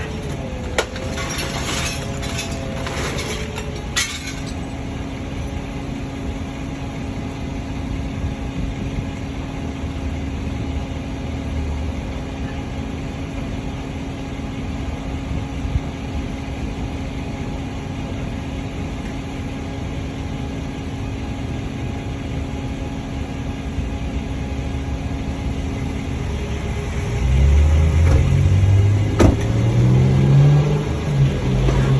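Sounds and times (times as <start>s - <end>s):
vehicle engine idling: 0.0s - 31.9s.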